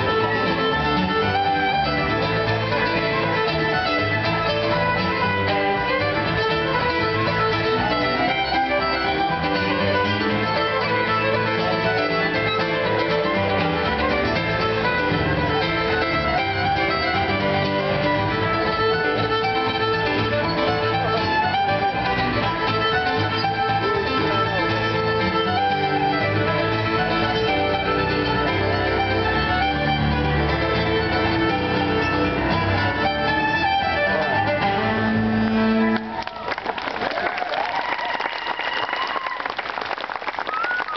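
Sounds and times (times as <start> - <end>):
fiddle playing lively melody: 0.0 - 40.9.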